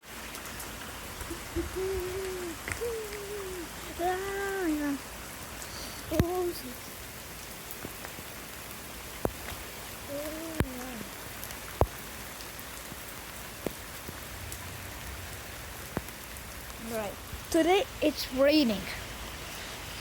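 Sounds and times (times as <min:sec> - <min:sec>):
steady rain: 0:00.0 - 0:20.0
heavy raindrops tapping: 0:00.2 - 0:19.0.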